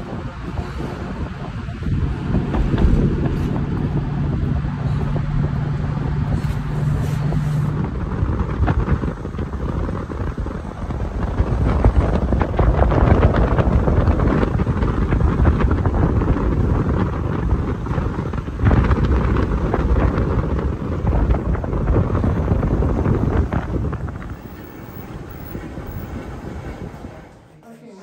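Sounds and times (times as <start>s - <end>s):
wind buffeting microphone: 0.0s - 27.5s
car road noise: 0.0s - 27.6s.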